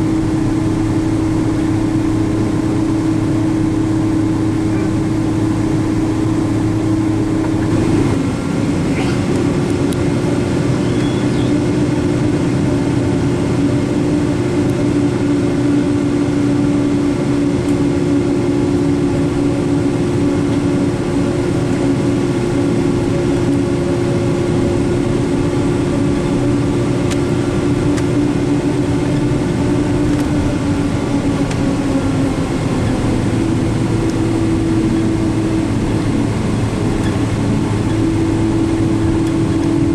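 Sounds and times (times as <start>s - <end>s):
humming tone: 0.0s - 13.0s, 13.6s - 39.9s
aircraft cabin engine drone: 0.0s - 39.9s.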